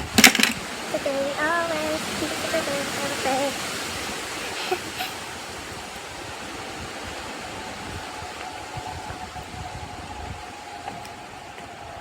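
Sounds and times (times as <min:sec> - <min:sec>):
faint steady hum: 0:00.0 - 0:12.0
wind blowing on microphone: 0:00.0 - 0:12.0.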